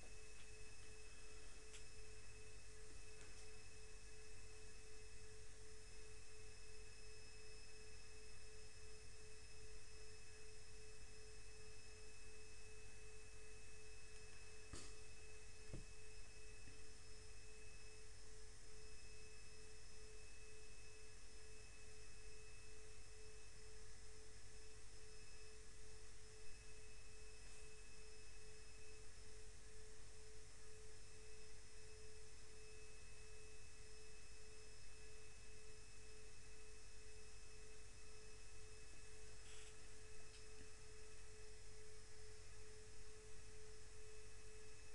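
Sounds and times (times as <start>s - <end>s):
steady electrical whine: 0.0s - 44.9s.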